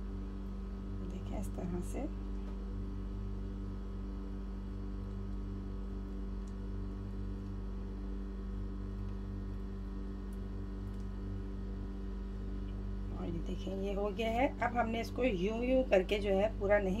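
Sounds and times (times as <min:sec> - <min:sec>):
buzzy electrical hum: 0:00.0 - 0:17.0.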